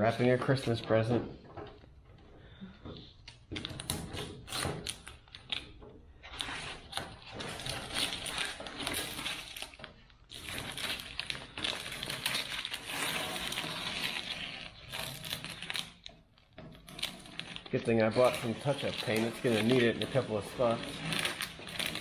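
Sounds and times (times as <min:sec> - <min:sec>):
tape ripping and crinkling: 0:03.5 - 0:22.0.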